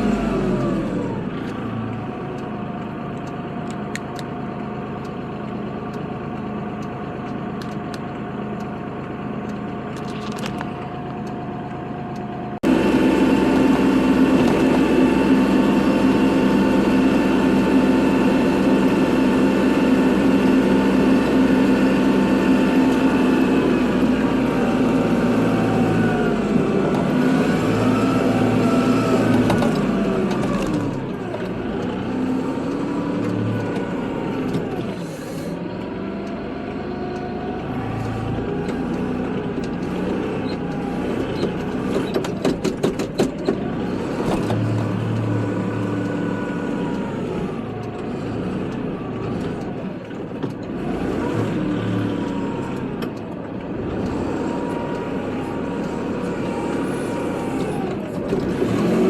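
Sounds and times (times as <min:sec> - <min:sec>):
tractor engine working: 0:00.0 - 0:59.0.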